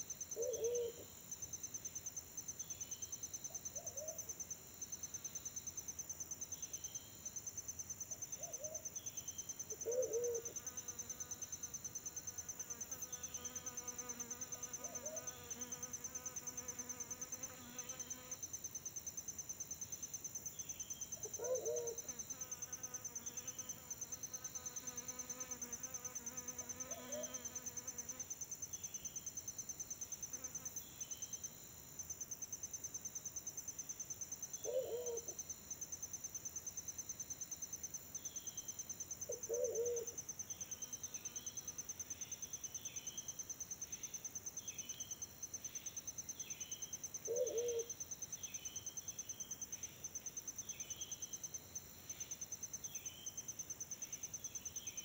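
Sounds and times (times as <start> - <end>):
insect trill: 0.0 - 55.0.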